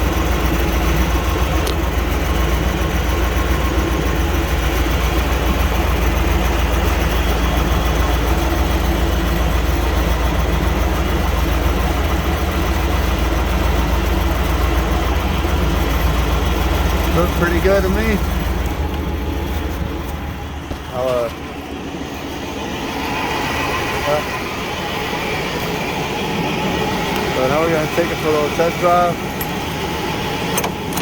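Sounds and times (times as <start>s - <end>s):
pickup truck engine idling: 0.0s - 31.0s.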